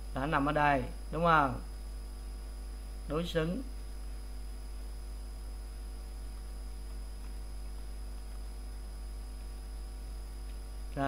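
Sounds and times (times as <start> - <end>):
constant hiss: 0.0 - 11.0
electrical mains hum: 0.0 - 11.0
faint high whine: 0.0 - 11.0.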